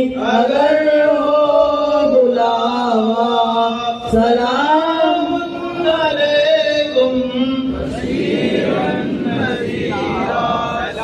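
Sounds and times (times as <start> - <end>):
man chanting through microphone: 0.0 - 11.0
men chanting together: 0.0 - 11.0.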